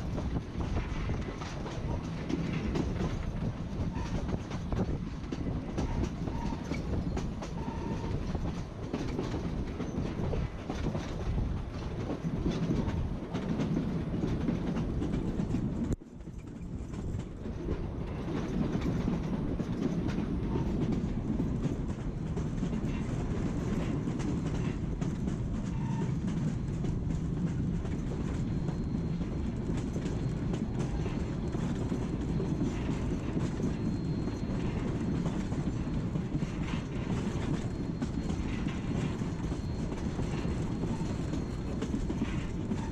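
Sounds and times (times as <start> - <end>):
train rumbling along: 0.0 - 42.9
wheels clicking over rail joints: 0.0 - 42.9.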